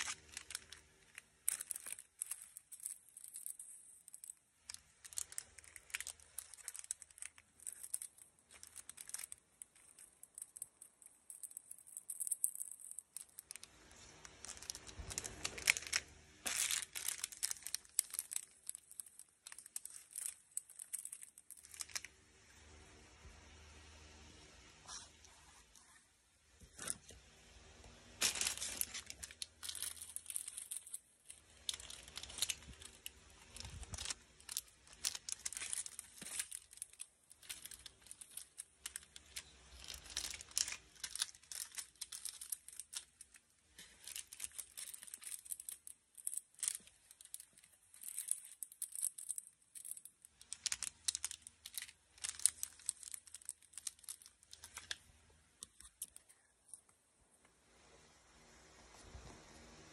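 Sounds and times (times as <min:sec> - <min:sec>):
plastic packaging crinkling: 0:00.0 - 0:22.8, 0:26.6 - 0:57.0.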